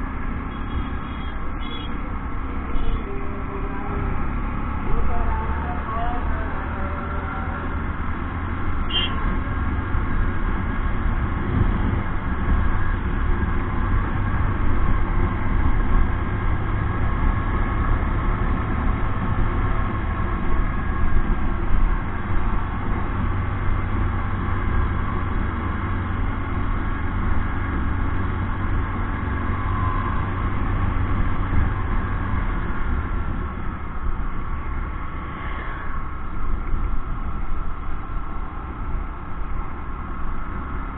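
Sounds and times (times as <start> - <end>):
wind rumble on microphone: 2.2 - 40.9.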